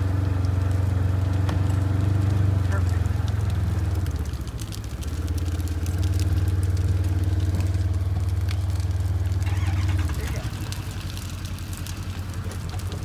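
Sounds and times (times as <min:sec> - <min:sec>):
pickup truck engine running: 0:00.0 - 0:13.0.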